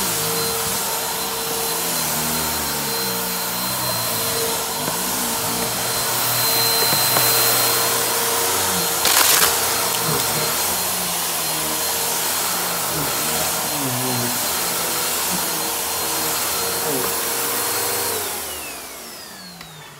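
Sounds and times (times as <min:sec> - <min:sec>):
vacuum cleaner running: 0:00.0 - 0:19.9.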